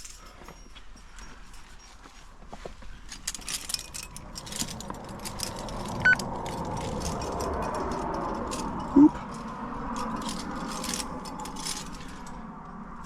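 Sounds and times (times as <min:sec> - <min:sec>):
climbing hardware clinking: 0:00.0 - 0:13.0.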